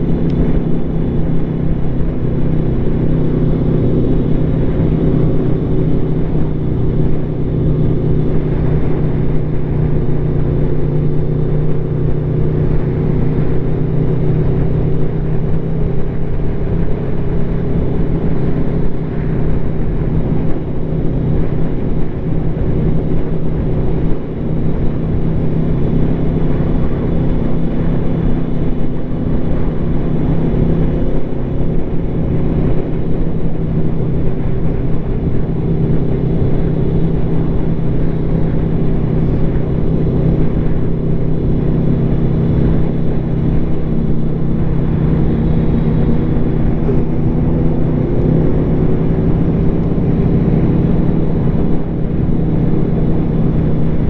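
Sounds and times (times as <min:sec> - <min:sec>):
motorcycle engine cruising: 0:00.0 - 0:54.0
wind rushing over microphone: 0:00.0 - 0:54.0.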